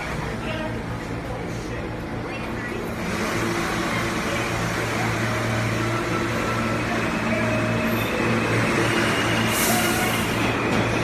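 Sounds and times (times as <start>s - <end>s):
subway train rumble and hum: 0.0s - 11.0s.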